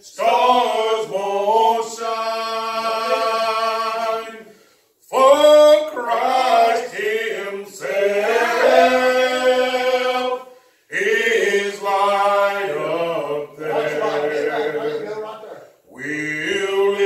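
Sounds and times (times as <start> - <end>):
voices singing slow song: 0.0 - 17.0.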